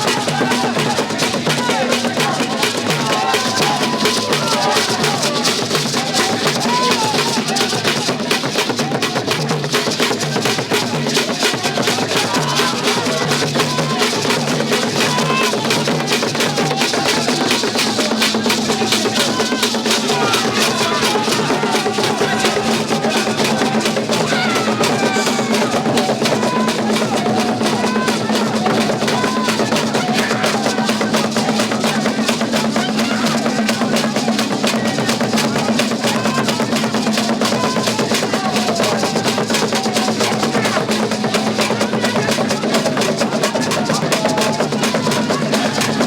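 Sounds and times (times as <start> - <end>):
fast dense drumming: 0.0 - 46.0.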